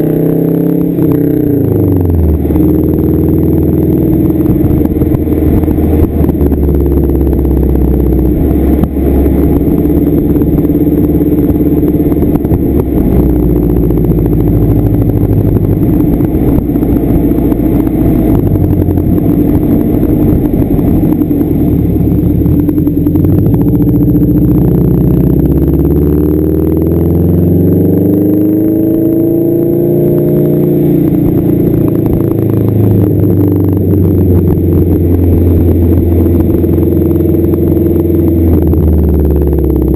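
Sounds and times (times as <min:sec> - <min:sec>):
car engine through loud exhaust: 0:00.0 - 0:39.9.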